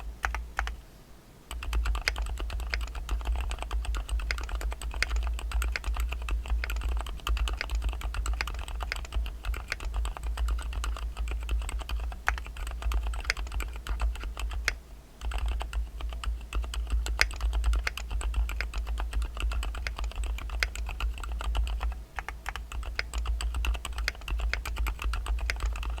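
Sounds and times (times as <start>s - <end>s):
mechanical keyboard typing: 0.2s - 0.8s, 1.5s - 26.0s.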